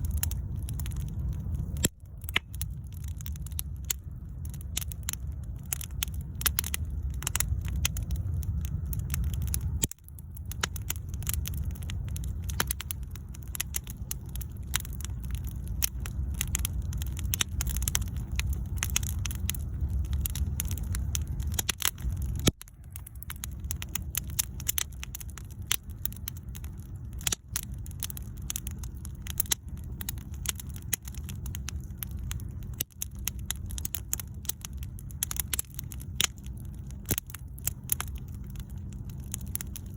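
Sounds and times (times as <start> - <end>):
bonfire crackling and popping: 0.0 - 39.9
fire low rumble: 0.0 - 39.9.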